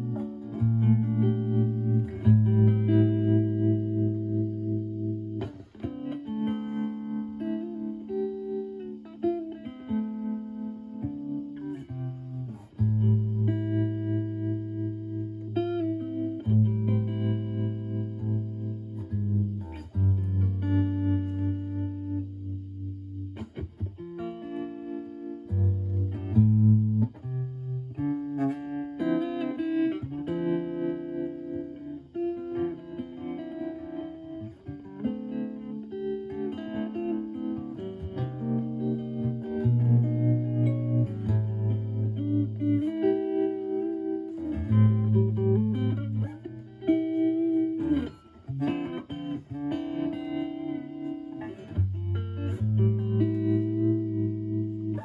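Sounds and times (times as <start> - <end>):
clean electric guitar with tremolo: 0.0 - 55.0.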